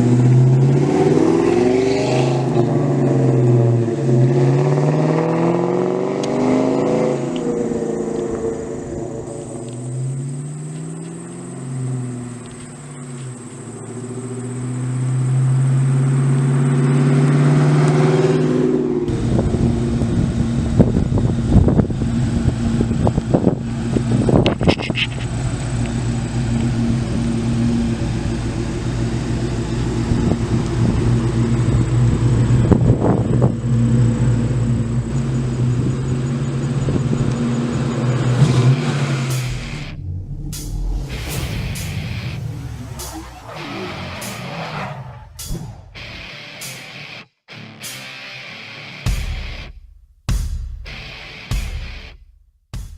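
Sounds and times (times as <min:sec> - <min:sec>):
car engine revving: 0:00.0 - 0:47.2.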